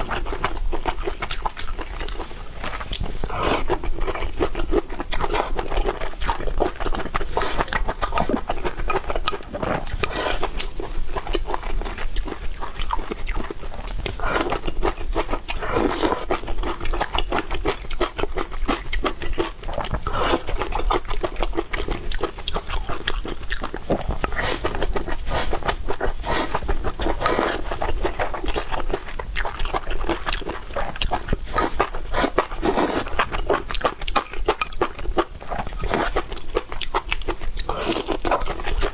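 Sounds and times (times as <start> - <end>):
wet chewing and lip smacking: 0.0 - 38.9.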